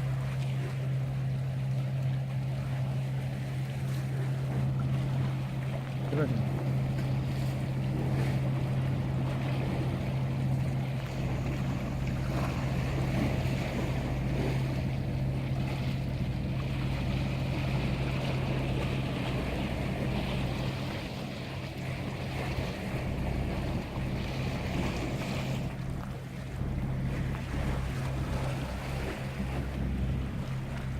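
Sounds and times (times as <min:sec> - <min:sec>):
boat engine humming: 0:00.0 - 0:30.9
sea noise: 0:00.0 - 0:30.9
wind: 0:00.0 - 0:30.9.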